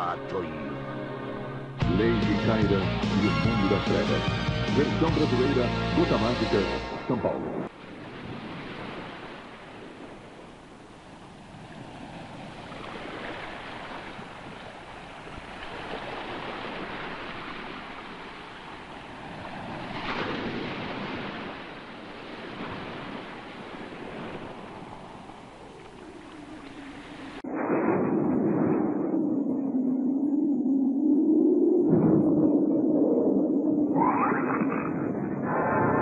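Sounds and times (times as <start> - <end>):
ocean waves washing in: 5.0 - 36.0.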